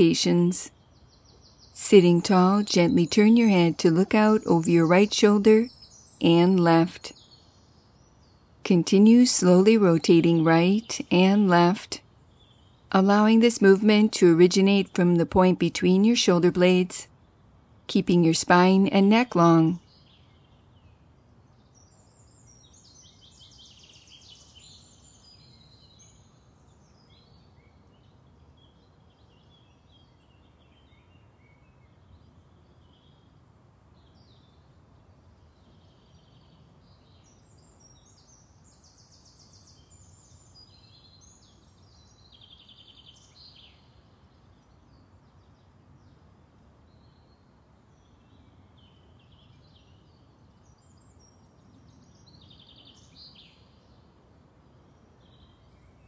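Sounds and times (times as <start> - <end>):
birdsong chirps and trills: 0.0 - 56.0
outdoor background noise: 0.0 - 56.0.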